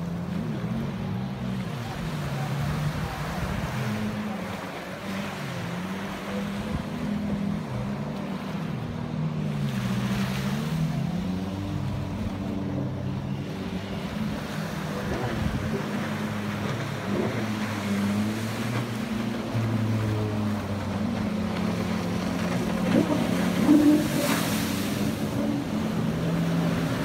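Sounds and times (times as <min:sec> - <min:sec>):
jet ski engines revving: 0:00.0 - 0:27.0
small waves breaking: 0:00.0 - 0:27.0.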